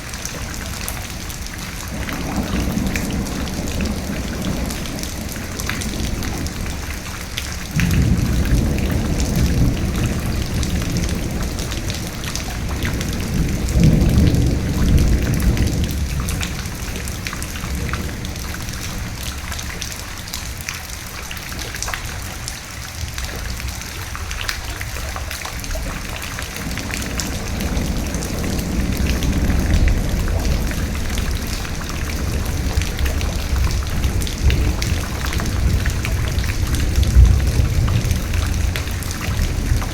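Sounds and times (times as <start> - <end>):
rolling thunder: 0.0 - 20.7, 23.0 - 39.9
heavy rain: 0.0 - 39.9.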